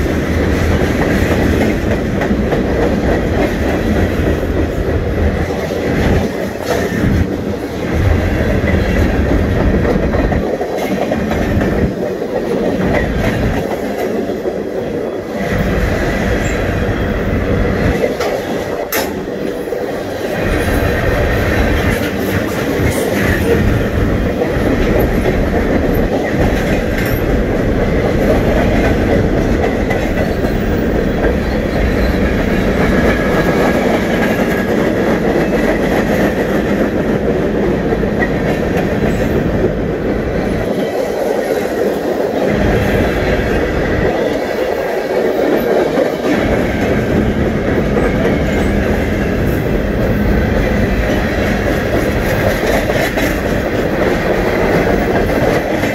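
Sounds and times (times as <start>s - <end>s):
freight train cars rumbling past: 0.0s - 55.9s.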